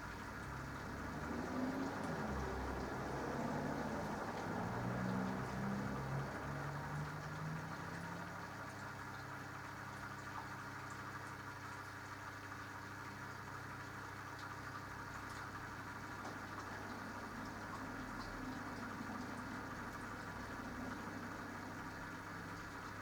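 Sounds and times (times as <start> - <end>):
soft water sounds: 0.0 - 23.0
washing machine motor drone: 0.1 - 23.0.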